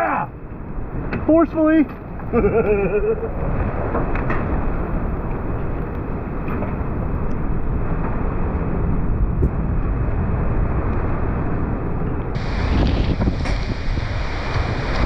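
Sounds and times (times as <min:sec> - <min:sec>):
road noise: 0:00.0 - 0:15.0
strong wind buffeting a car: 0:00.0 - 0:15.0.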